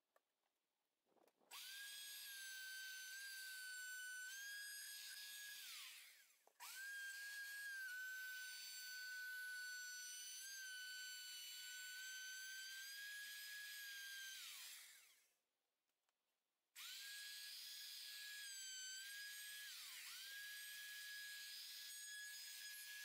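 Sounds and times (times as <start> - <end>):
router high whine: 1.5 - 15.2, 16.8 - 23.0.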